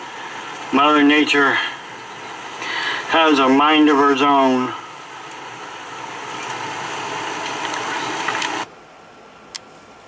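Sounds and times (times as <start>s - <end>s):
heavy rain pouring: 0.0s - 8.7s.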